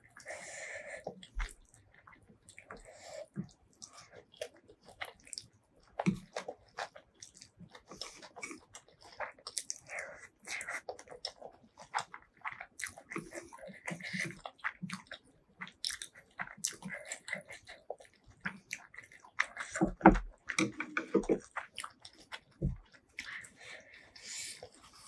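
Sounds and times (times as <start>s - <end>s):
wet chewing and mouth smacks: 0.0s - 25.0s.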